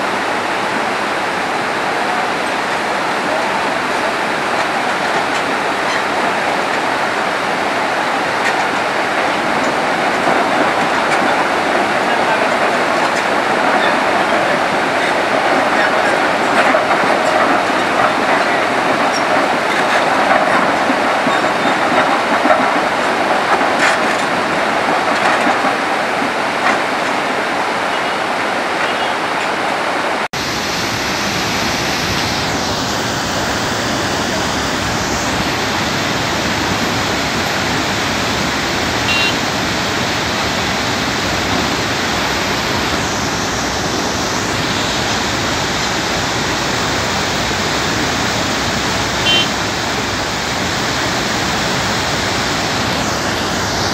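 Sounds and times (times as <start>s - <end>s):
river rushing over boulders: 0.0s - 53.9s.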